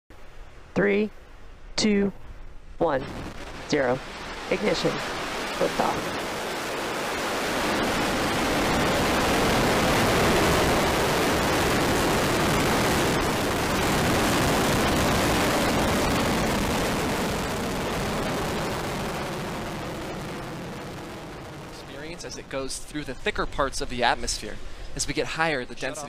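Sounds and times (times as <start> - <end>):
rocket engines roaring: 2.9 - 26.0.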